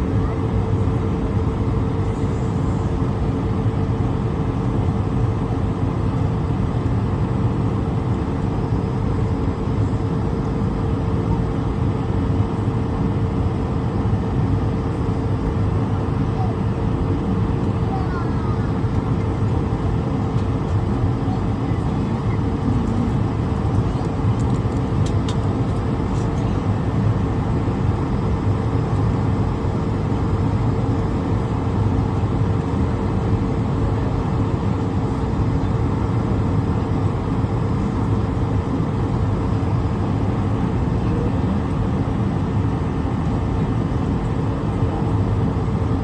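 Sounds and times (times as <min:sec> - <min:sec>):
jet engine rush and hum: 0:00.0 - 0:46.0.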